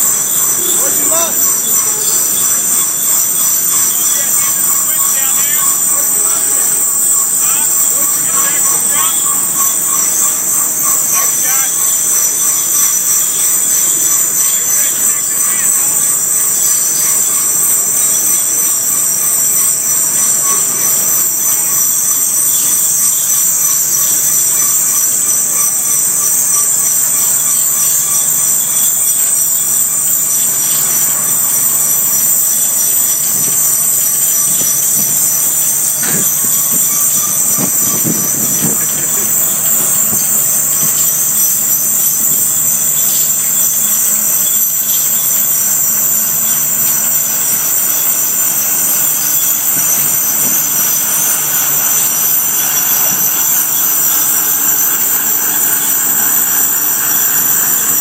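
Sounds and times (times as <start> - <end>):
high-pitched squeal of steel on steel: 0.0 - 58.0.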